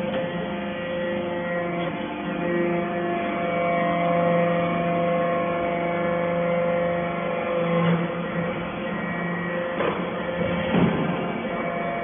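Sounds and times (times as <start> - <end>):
electric motor and hydraulic pump: 0.0 - 12.0.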